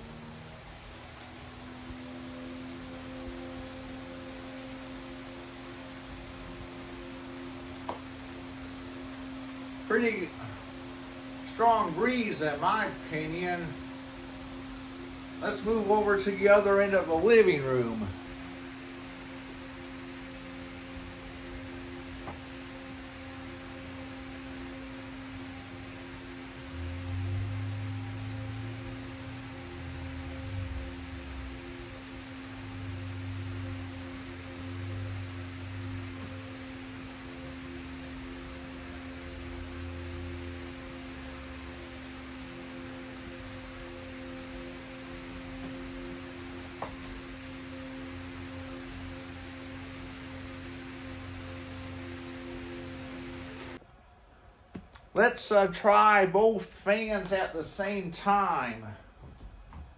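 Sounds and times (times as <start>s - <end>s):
deeper louder hum: 0.0s - 54.4s
electric fan humming: 0.0s - 59.9s.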